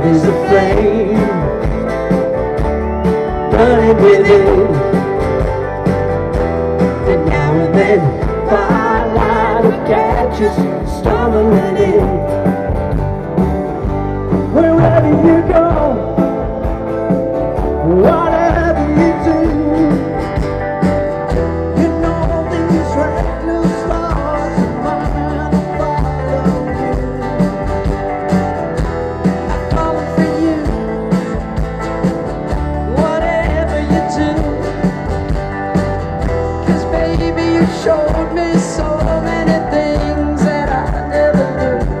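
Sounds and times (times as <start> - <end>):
electric bass: 0.0 - 42.0
live pop-rock band: 0.0 - 42.0
steady drum beat: 0.0 - 42.0.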